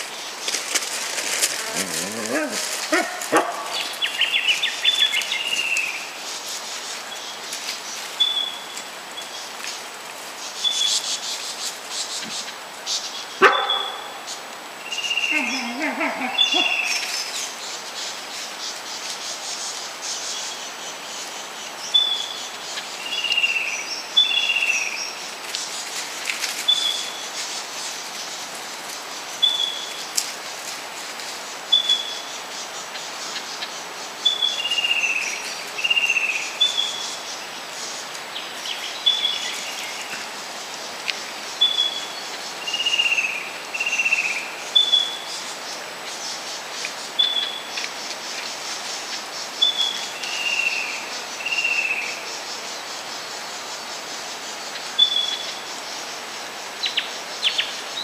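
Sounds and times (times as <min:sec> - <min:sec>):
steady background hiss: 0:00.0 - 0:58.0.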